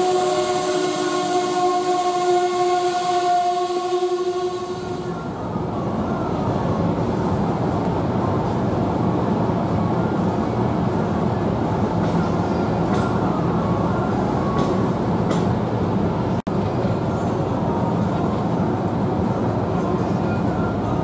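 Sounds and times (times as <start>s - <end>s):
passenger train passing at speed: 0.0s - 21.0s.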